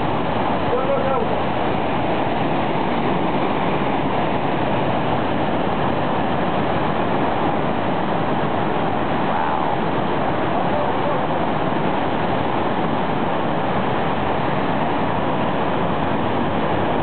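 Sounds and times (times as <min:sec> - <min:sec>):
rush of falling water: 0:00.0 - 0:17.0.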